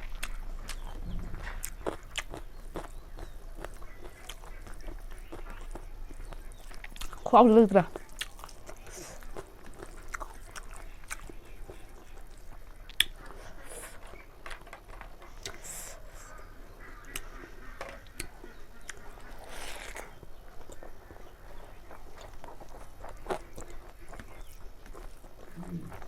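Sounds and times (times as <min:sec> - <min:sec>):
person chewing and biting food: 0:00.0 - 0:07.3, 0:07.9 - 0:14.2, 0:18.1 - 0:26.0.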